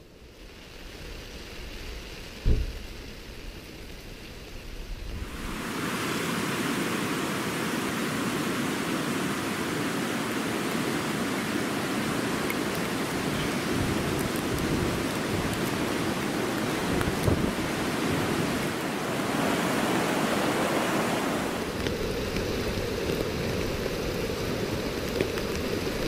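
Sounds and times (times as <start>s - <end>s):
heavy rain: 0.0s - 26.0s
wind: 0.0s - 26.0s.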